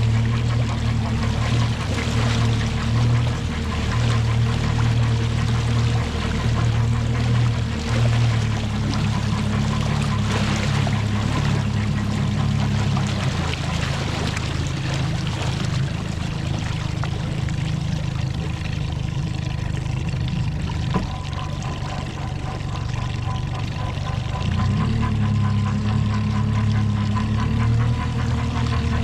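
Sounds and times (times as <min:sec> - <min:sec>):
outboard motor running: 0:00.0 - 0:29.0
water splashing: 0:00.0 - 0:29.0.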